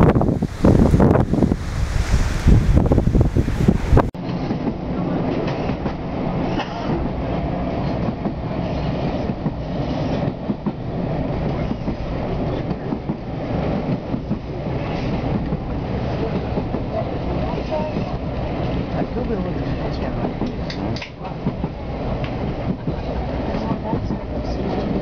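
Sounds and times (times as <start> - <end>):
wind buffeting microphone: 0.0 - 6.4, 7.0 - 25.0
train carriage rumble from inside: 0.0 - 25.0
wheels clicking over rails: 4.3 - 25.0.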